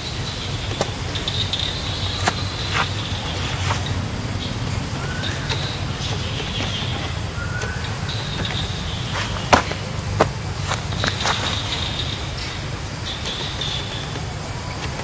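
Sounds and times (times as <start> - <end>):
rising bird chirps: 0.0 - 14.2
high insect drone: 0.0 - 15.0.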